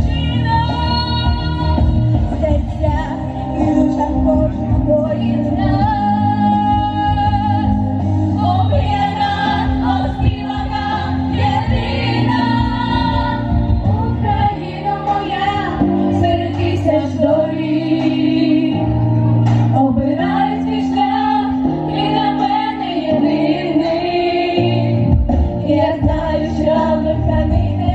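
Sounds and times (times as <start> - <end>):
female vocal group singing: 0.0 - 19.0, 19.7 - 27.9.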